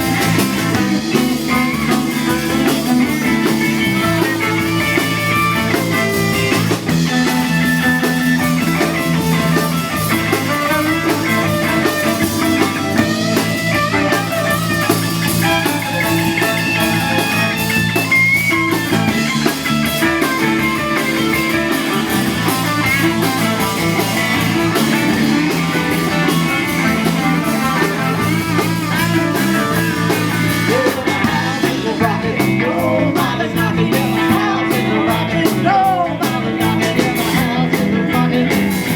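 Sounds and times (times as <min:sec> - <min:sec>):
electric guitar: 0:00.0 - 0:38.9
live rock band: 0:00.0 - 0:38.9.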